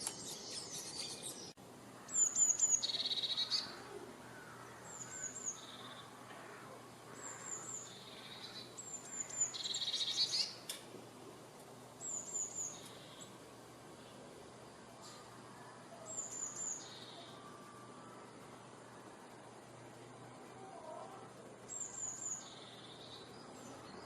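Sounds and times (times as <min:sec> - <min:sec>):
songbird singing: 0:00.0 - 0:10.8, 0:11.6 - 0:24.0.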